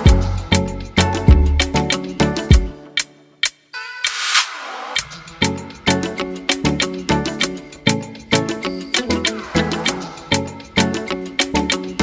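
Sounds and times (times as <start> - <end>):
music with strong beat: 0.0 - 12.0.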